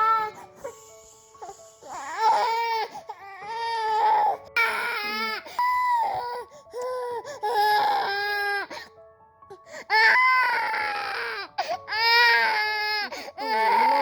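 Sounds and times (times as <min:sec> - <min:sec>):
baby crying: 0:00.0 - 0:00.8, 0:01.8 - 0:08.8, 0:09.8 - 0:14.0.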